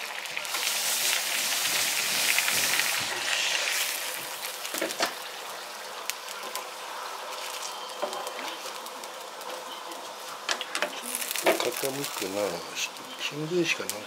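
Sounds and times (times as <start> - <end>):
rice sizzling in a pan: 0.0 - 14.0.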